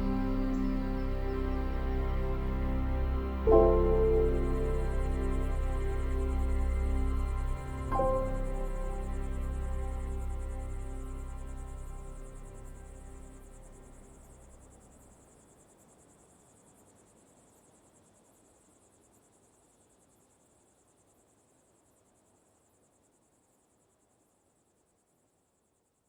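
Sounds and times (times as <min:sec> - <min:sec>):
insect chirping trill: 0:00.0 - 0:25.9.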